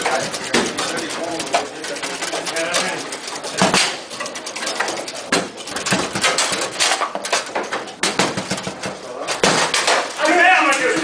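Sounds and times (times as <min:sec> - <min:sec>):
foosball clacks and thuds: 0:00.0 - 0:11.0.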